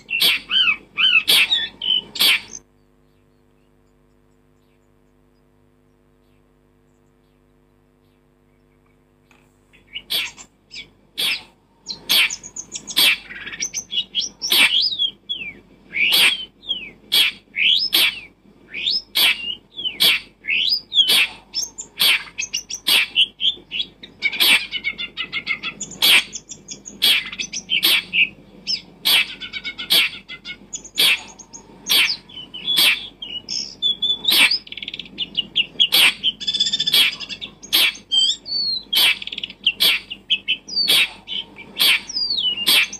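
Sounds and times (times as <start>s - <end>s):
bird chirping and calling: 0.0s - 9.0s, 9.7s - 42.9s.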